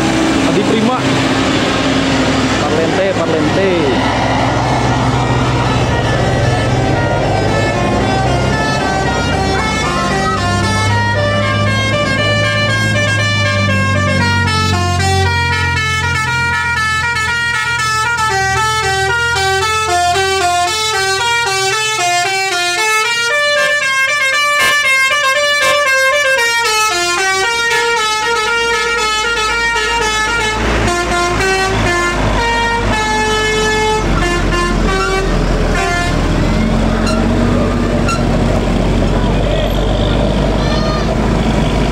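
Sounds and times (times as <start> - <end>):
bus engine running: 0.0 - 41.9
bus musical horn playing tune: 5.6 - 38.5, 39.6 - 41.8.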